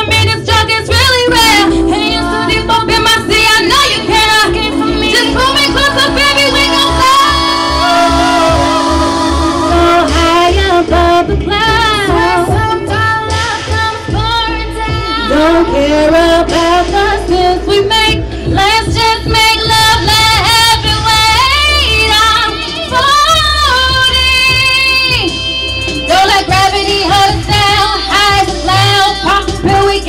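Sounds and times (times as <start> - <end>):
backing music with bass: 0.0 - 30.0
woman singing into microphone: 0.0 - 30.0.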